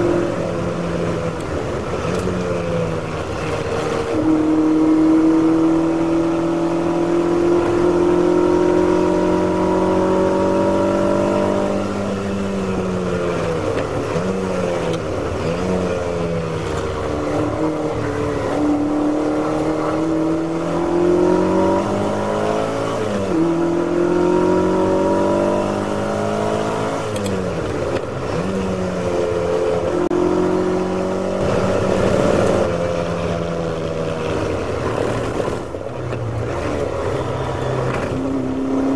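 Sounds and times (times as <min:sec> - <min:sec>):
race car engine revving: 0:03.0 - 0:38.9.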